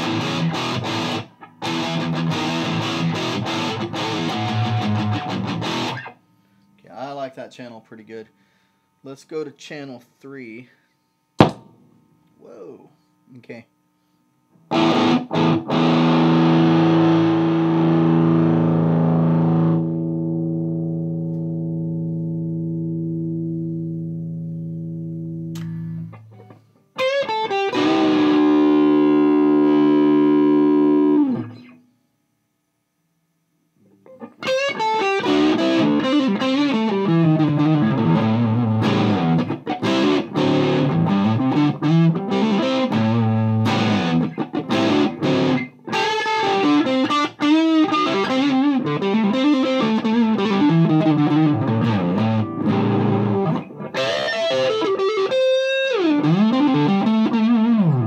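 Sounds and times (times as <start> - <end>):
distorted electric guitar riffing: 0.0 - 6.2, 14.7 - 24.2, 25.2 - 31.8, 33.9 - 58.0.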